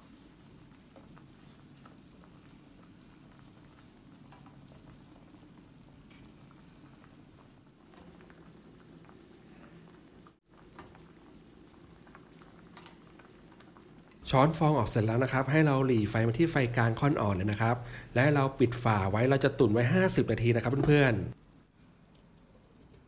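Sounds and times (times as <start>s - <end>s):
soup bubbling at a rolling boil: 0.0s - 23.0s.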